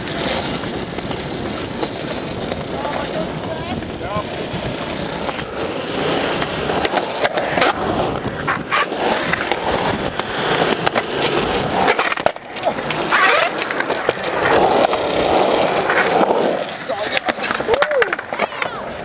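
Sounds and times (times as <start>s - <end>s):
skateboard clacking on concrete: 0.0s - 19.0s
skateboard wheels rumbling on concrete: 0.0s - 19.0s.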